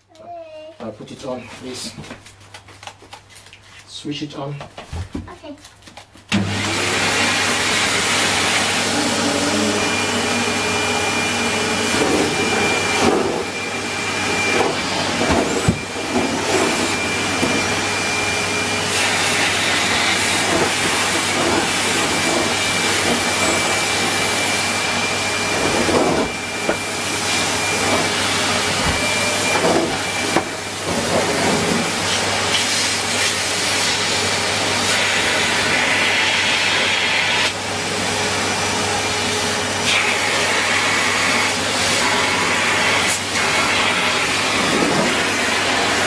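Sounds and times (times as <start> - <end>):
vacuum cleaner running: 6.3 - 46.0
vacuum sucking up paper: 6.3 - 46.0.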